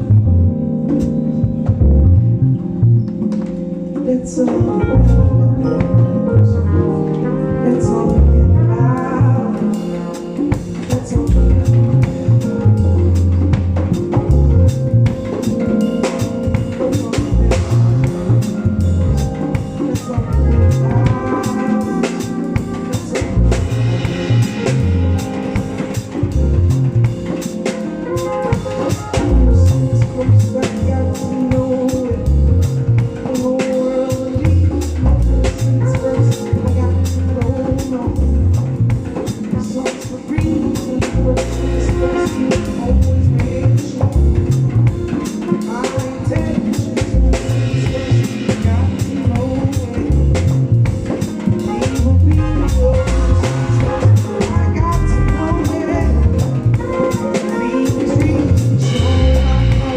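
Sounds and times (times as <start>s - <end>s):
bass line: 0.0s - 59.9s
drum kit beat: 0.0s - 59.9s
live band playing instrumental: 0.0s - 59.9s.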